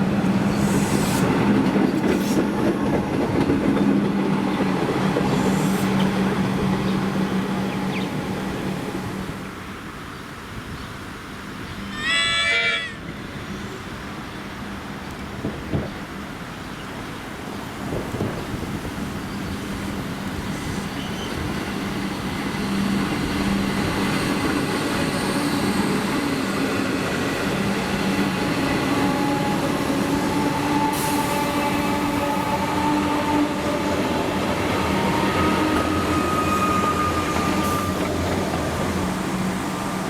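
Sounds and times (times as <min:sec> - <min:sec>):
train rail rumble: 0:00.0 - 0:10.1, 0:13.1 - 0:40.0.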